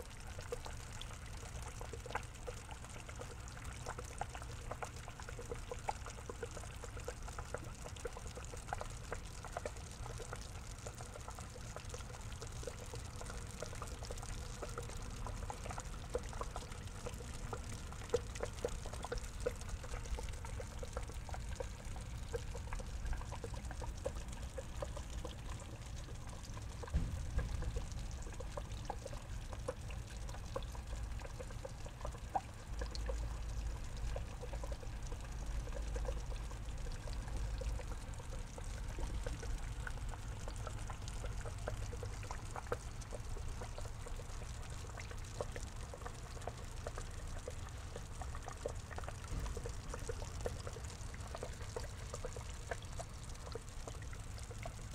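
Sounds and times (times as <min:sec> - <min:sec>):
small drips and splashes: 0:00.0 - 0:54.9
water trickling into pond: 0:00.0 - 0:54.9.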